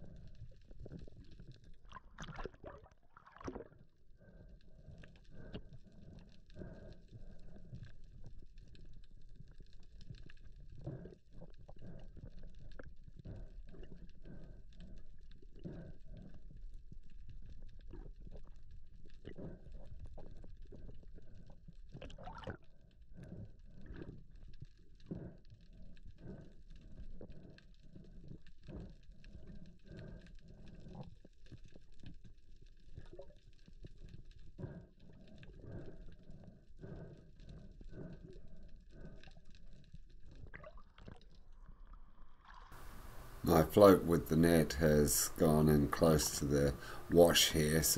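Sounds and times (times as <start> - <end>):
underwater rumble of moving water: 0.0 - 47.9.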